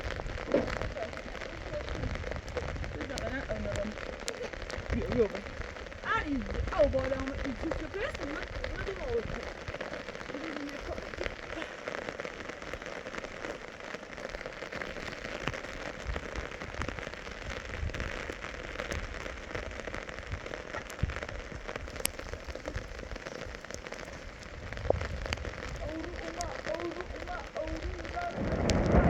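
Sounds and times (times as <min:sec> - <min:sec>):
rain falling steadily: 0:00.0 - 0:29.0
raindrop ticks: 0:00.0 - 0:29.0.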